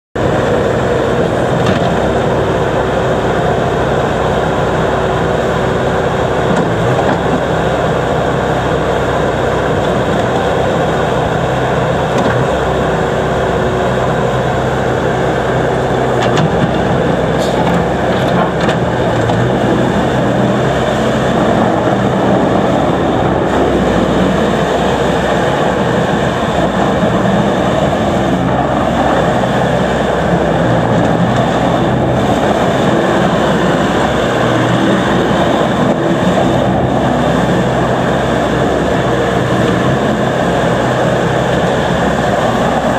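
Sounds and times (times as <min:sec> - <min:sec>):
diesel engine running: 0:00.2 - 0:42.9
loader driving on gravel: 0:00.2 - 0:42.9.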